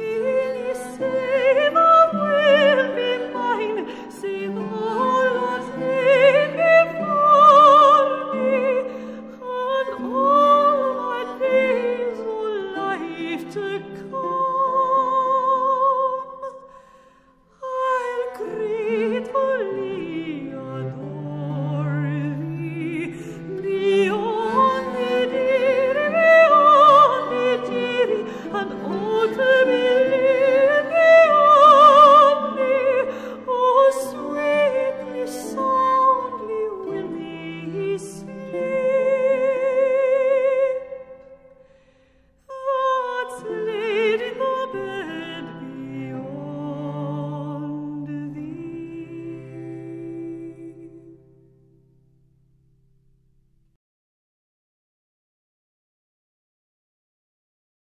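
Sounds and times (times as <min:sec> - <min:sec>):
operatic vocal melody with vibrato: 0:00.0 - 0:17.0, 0:17.6 - 0:41.6, 0:42.5 - 0:51.5.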